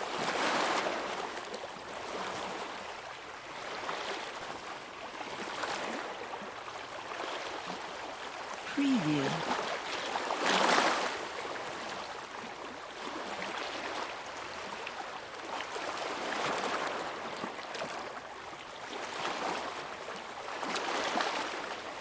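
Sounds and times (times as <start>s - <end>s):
water lapping at the shore: 0.0s - 22.0s.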